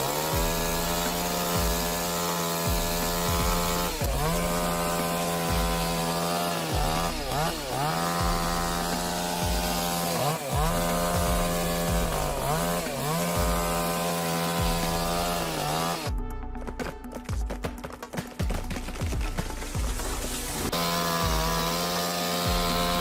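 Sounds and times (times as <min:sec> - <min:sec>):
chainsaw cutting wood: 0:00.0 - 0:16.3, 0:18.1 - 0:23.0.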